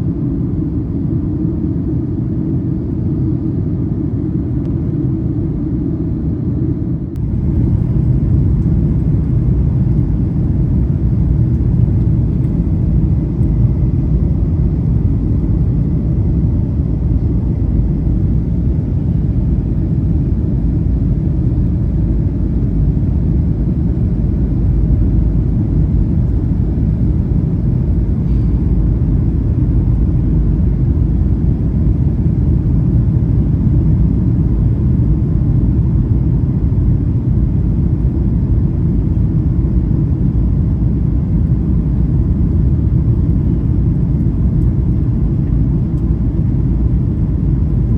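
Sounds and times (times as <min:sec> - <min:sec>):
airliner cabin engine rumble: 0:00.0 - 0:47.9.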